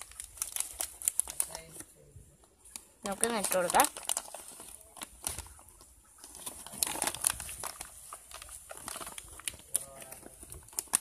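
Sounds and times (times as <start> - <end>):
plastic bag crinkling: 0.0 - 1.8, 2.7 - 11.0.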